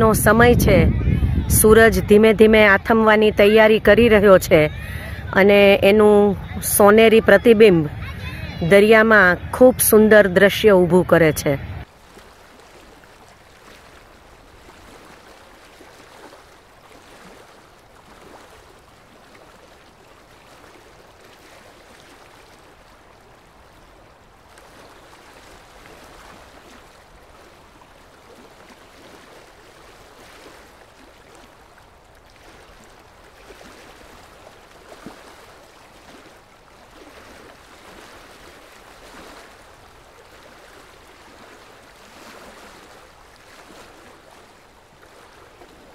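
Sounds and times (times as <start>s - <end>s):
calm sea surf washing: 0.0s - 45.9s.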